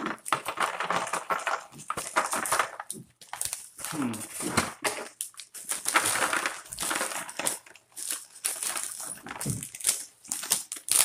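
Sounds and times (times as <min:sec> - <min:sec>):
packaging crinkling and crushing: 0:00.0 - 0:11.0.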